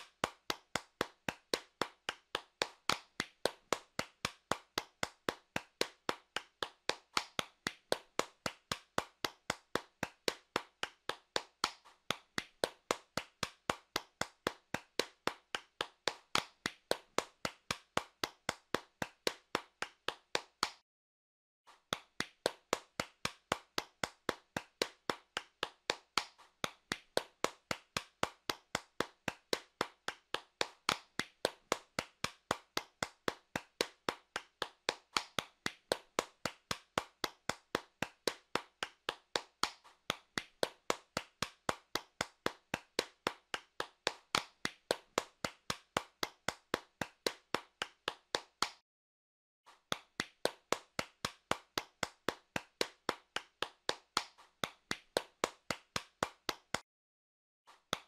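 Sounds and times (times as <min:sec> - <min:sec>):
hands clapping: 0:00.0 - 0:20.8, 0:21.7 - 0:48.8, 0:49.8 - 0:56.8, 0:57.8 - 0:58.0.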